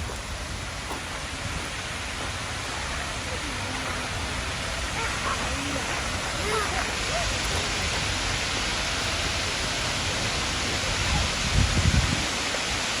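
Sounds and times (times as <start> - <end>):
distant waterfall rushing: 0.0 - 13.0.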